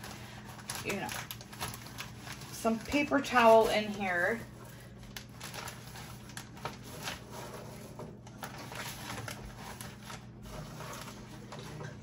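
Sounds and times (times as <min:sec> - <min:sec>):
paper towel rustling: 0:00.0 - 0:12.0.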